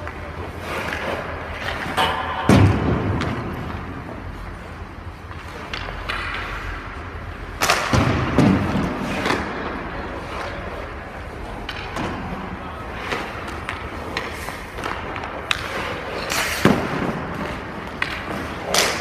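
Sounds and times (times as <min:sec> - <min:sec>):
skates thudding and scraping on ice: 0:00.0 - 0:19.0.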